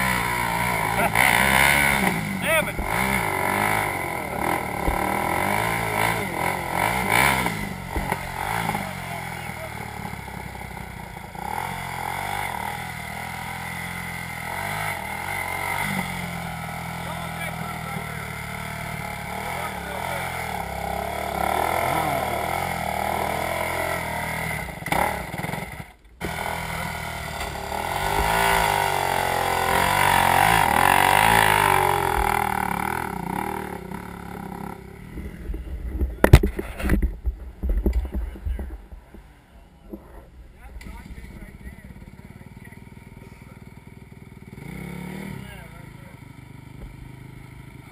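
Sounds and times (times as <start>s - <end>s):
vehicle engine idling and revving: 0.0s - 47.9s.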